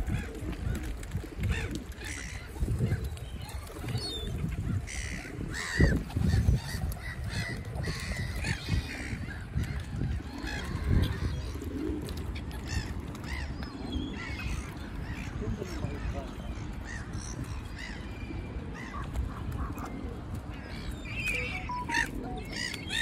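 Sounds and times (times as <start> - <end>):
gulls and swans calling: 0.0 - 23.0.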